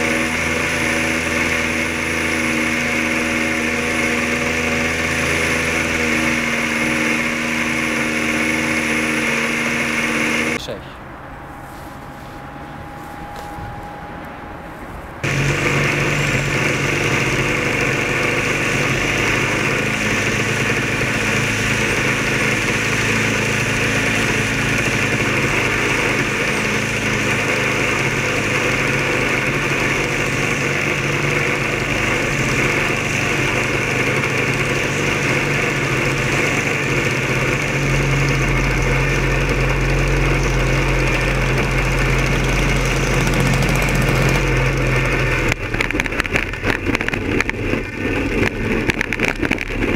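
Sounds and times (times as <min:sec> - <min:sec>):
deeper rumble: 0:00.0 - 0:49.9
drone motor droning: 0:00.0 - 0:49.9.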